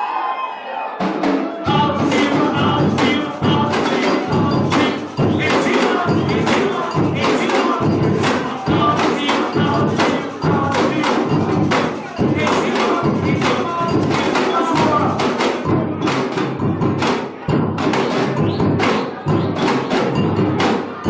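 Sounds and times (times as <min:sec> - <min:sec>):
samba drum corps playing: 0:01.0 - 0:21.0.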